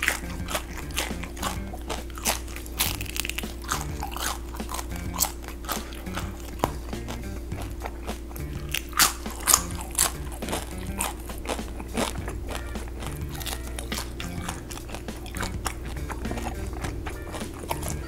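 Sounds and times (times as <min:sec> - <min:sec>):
background music low tones: 0:00.0 - 0:18.0
crunchy chewing: 0:00.0 - 0:18.0.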